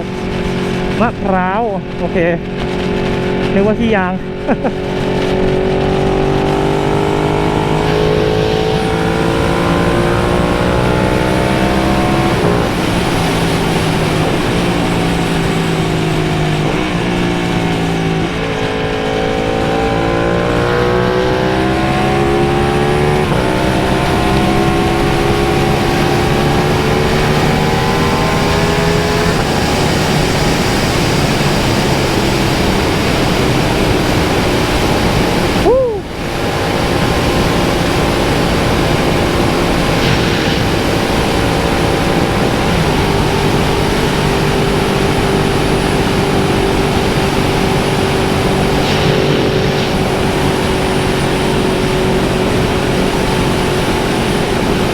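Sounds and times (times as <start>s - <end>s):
motorcycle engine shifting gears: 0.0s - 54.9s
wind rushing: 0.0s - 54.9s.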